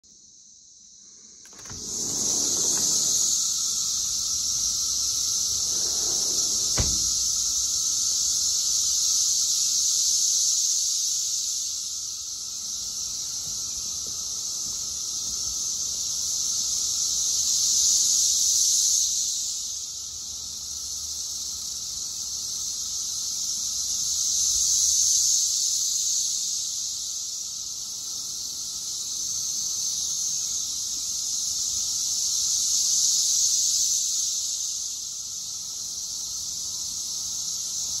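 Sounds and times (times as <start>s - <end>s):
cicadas buzzing: 0.1s - 38.0s.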